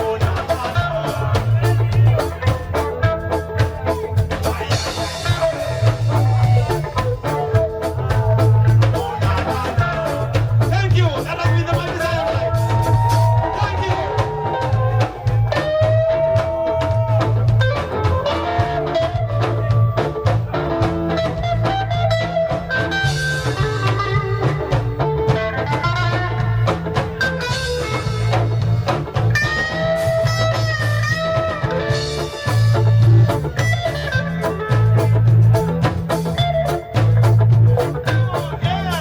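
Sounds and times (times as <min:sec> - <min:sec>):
drum kit: 0:00.0 - 0:39.0
lead guitar melody: 0:00.0 - 0:39.0
pulsing bass: 0:00.0 - 0:39.0.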